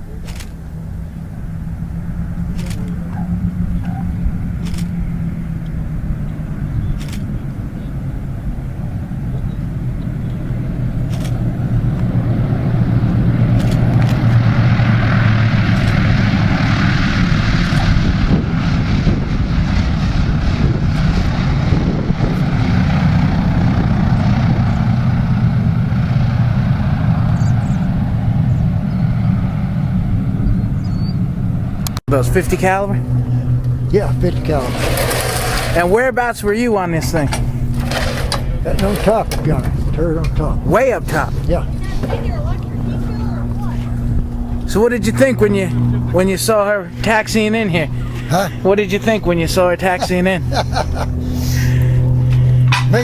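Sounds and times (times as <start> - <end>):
propeller plane engines running: 0.0 - 53.0.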